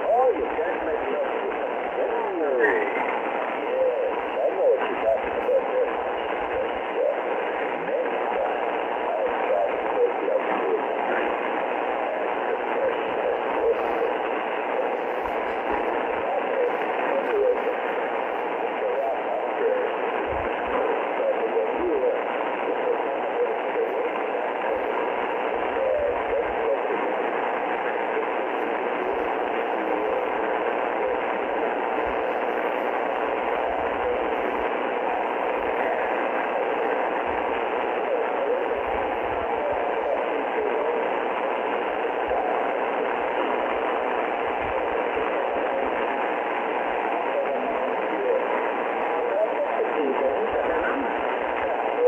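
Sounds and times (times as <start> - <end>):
faint wavering voice: 0.0 - 52.0
radio static hiss: 0.0 - 52.0.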